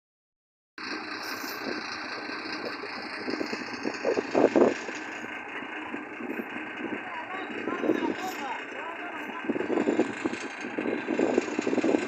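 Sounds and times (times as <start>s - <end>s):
vehicle engine idling: 0.8s - 12.0s.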